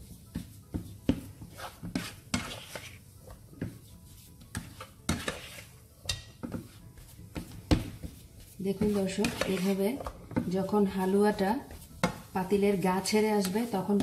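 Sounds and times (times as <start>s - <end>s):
spatula scraping a frying pan: 0.0s - 14.0s.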